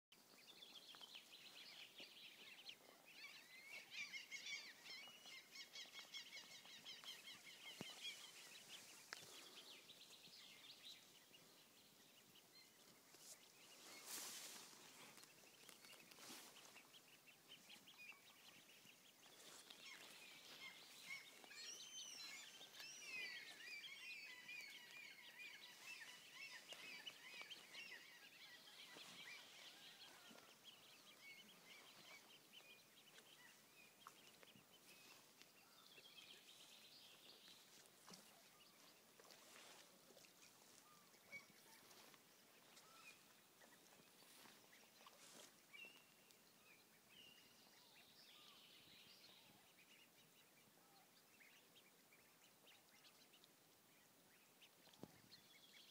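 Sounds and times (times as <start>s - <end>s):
bird peeping and chirping: 0.2s - 55.9s.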